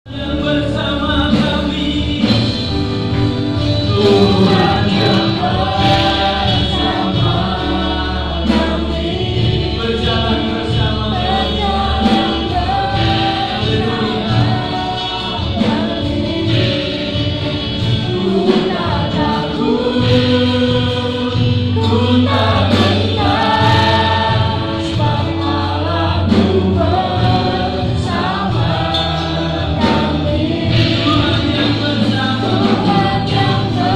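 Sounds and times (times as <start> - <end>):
instrumental accompaniment with bass: 0.0 - 33.9
group singing worship song: 0.1 - 33.9.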